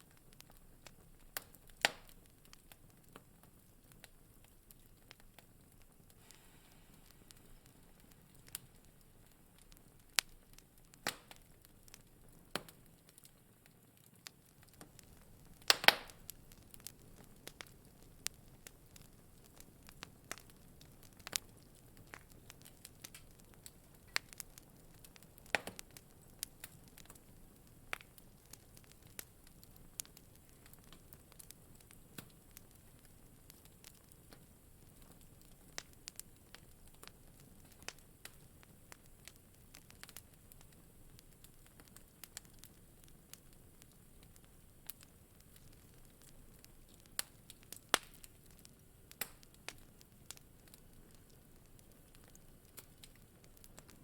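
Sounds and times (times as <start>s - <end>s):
faint steady hiss: 0.0s - 54.0s
wood fire crackling: 0.0s - 54.0s.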